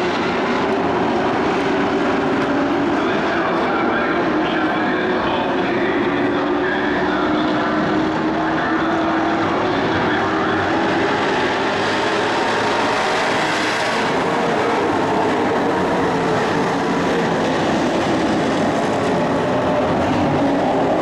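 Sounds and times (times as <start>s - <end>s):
racing truck engines: 0.0s - 21.0s.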